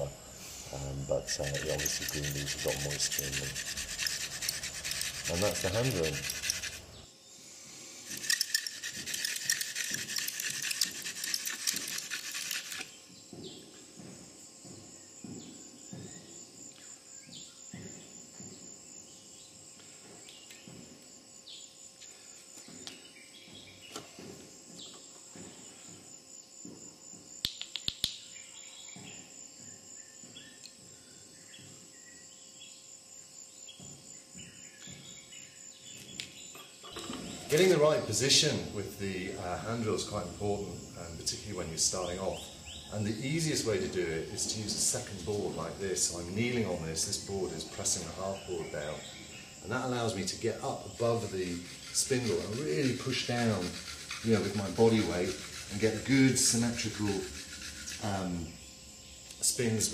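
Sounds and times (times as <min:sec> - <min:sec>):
buzzing insect chorus: 0:00.0 - 0:59.9
insects trilling: 0:00.0 - 0:59.9.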